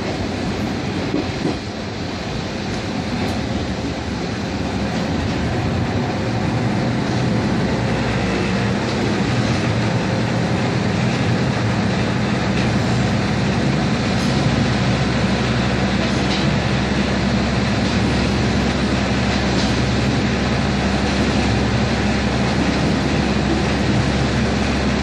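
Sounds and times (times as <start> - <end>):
diesel engine drone: 0.0 - 25.0
train wheels on rails: 0.0 - 25.0.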